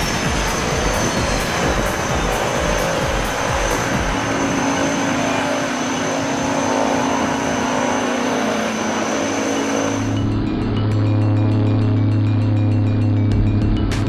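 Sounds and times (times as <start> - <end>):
propeller plane engines running: 0.0 - 14.0
strong low hum: 0.0 - 14.0.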